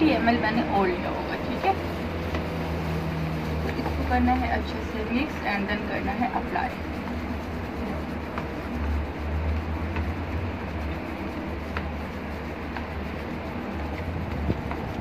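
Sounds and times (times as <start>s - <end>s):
brush scraping plastic bowl: 0.0s - 15.0s
low background rumble: 0.0s - 15.0s.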